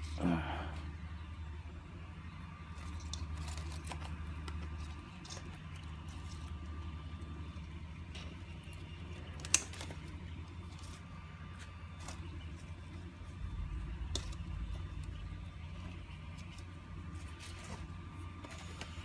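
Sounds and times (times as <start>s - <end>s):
steady low hum: 0.0s - 19.0s
plants rustling and clicking: 2.7s - 19.0s.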